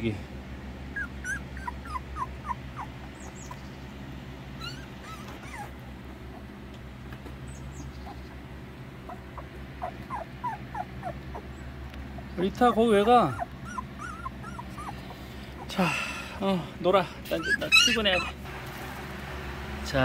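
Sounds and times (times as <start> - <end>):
low steady hum: 0.0 - 20.0
puppies whimpering: 0.9 - 6.6, 7.4 - 18.5.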